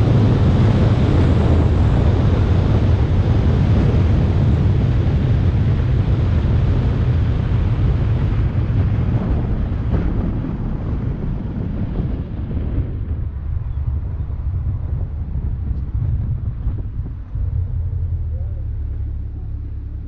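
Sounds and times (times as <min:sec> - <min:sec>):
road and engine noise: 0:00.0 - 0:20.0
wind rushing over microphone: 0:00.0 - 0:20.0.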